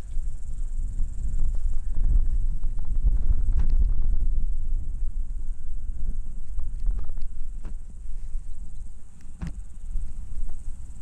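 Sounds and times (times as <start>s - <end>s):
high-pitched insect drone: 0.0s - 11.0s
wind buffeting microphone: 0.0s - 11.0s.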